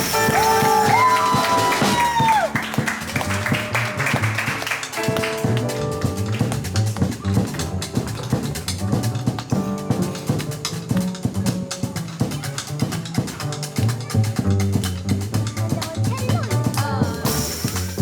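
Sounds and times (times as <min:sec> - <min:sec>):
drum kit cymbal and snare: 0:00.0 - 0:18.0
piano: 0:00.0 - 0:18.0
walking double bass: 0:00.0 - 0:18.0.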